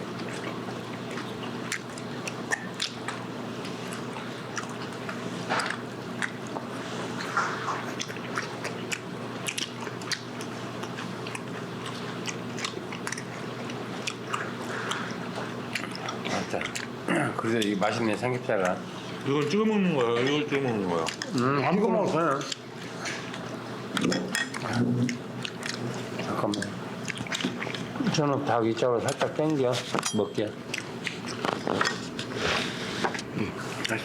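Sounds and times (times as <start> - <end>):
people chewing: 0.0 - 34.0
steady low hum: 0.0 - 34.0.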